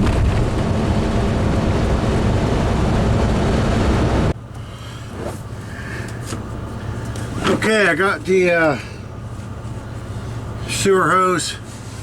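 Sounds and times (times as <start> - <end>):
engine drone: 0.0 - 12.0
road noise: 0.0 - 12.0.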